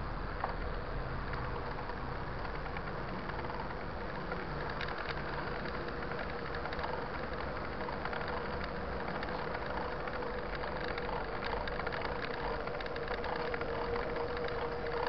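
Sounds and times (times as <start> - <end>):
steady hum: 0.0 - 15.0
bike tyres rolling: 0.4 - 15.0.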